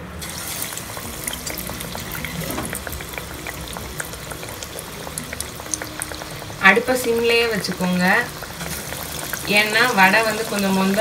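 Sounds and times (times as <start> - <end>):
food sizzling in hot oil: 0.2 - 11.0.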